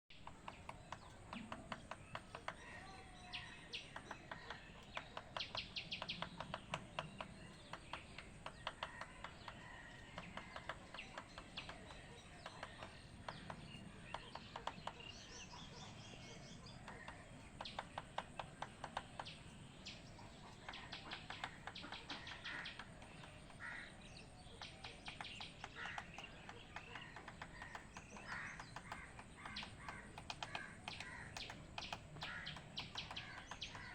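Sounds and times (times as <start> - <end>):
bird chirps: 0.1 - 33.9
bird chattering calls: 0.2 - 33.9.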